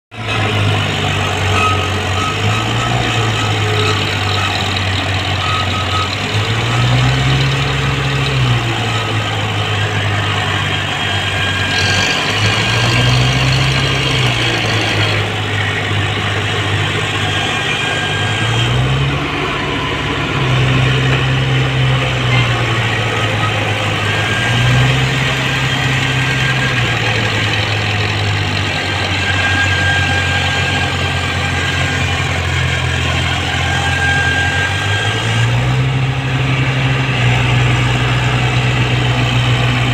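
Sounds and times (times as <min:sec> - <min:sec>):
tractor engines working hard: 0:00.1 - 0:39.9.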